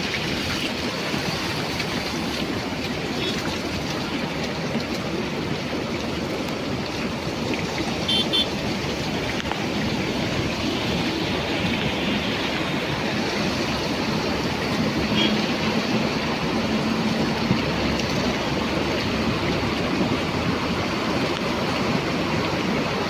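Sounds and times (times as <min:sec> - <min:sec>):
heavy rain: 0:00.0 - 0:23.0
rushing river: 0:00.0 - 0:23.0.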